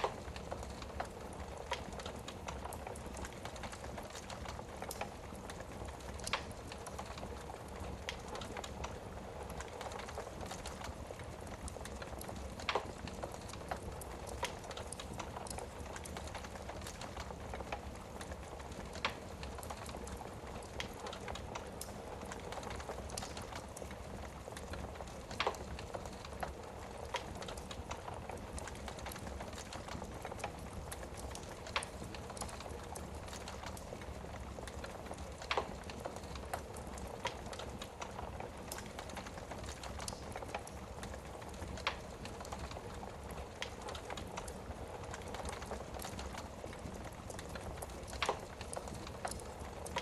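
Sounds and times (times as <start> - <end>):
fire crackles and pops: 0.0 - 50.0
wood fire hissing: 0.0 - 50.0.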